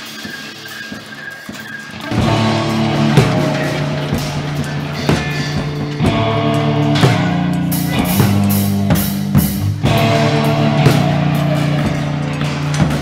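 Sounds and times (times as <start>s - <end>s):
rock music: 0.0s - 13.0s
cymbal crashes: 2.0s - 12.9s.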